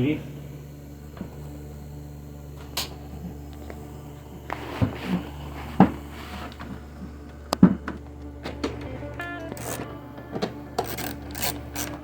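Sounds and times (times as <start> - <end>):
steady low hum: 0.0 - 12.0
plastic rubbing and scraping: 0.8 - 12.0.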